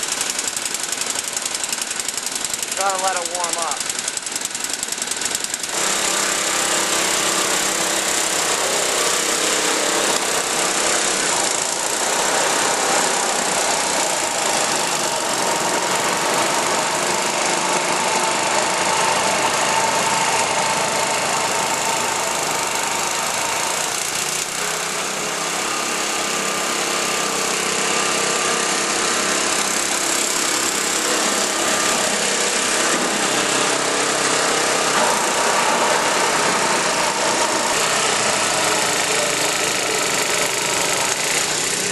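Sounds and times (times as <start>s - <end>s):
snow blower engine running: 0.0s - 41.9s.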